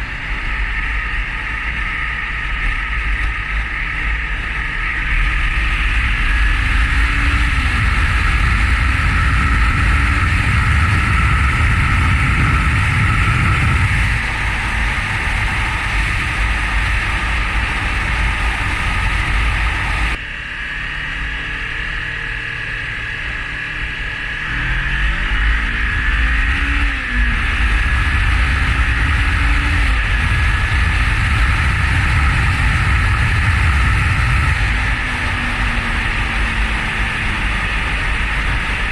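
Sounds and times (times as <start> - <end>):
wind noise on microphone: 0.0 - 20.3, 22.1 - 38.9
motorcycle engine accelerating: 0.0 - 38.9.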